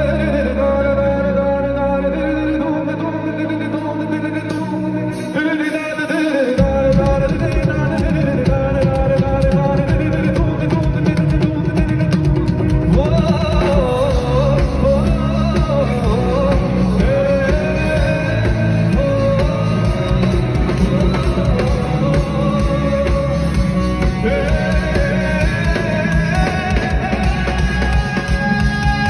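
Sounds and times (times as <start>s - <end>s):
live band playing pop song: 0.0s - 29.0s.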